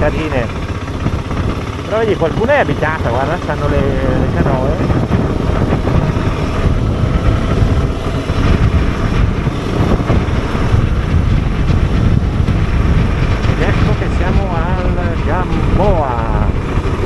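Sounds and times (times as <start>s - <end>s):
motorcycle engine rumble: 0.0s - 17.0s
wind on microphone: 0.0s - 17.0s.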